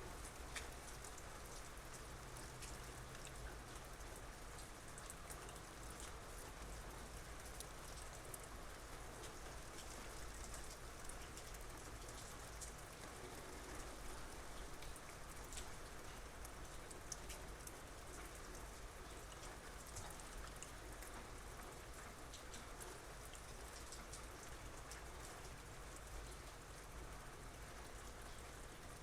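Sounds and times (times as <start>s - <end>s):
light raindrop ticks: 0.0s - 29.0s
soft rain falling: 0.0s - 29.0s.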